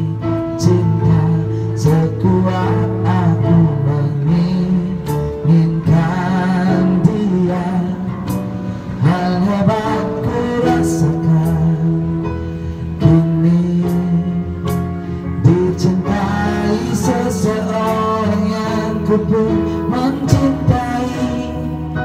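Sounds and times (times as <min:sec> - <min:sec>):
electric keyboard chords: 0:00.0 - 0:22.0
person singing: 0:00.0 - 0:22.0.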